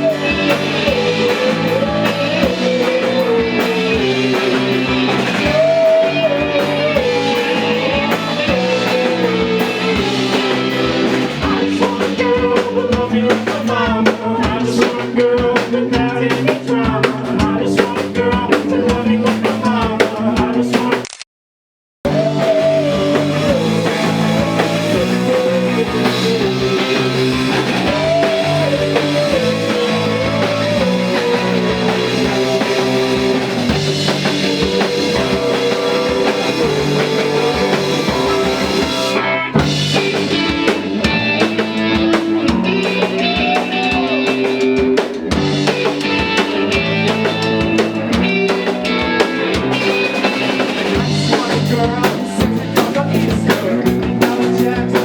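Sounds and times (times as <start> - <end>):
drum kit beat: 0.0 - 21.0, 22.1 - 55.0
bass guitar: 0.0 - 21.2, 22.0 - 55.0.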